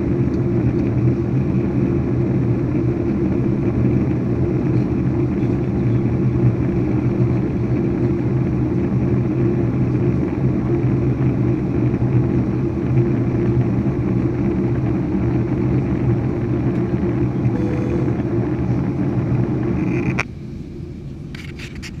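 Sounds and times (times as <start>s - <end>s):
jet engine rumble in cabin: 0.0s - 22.0s.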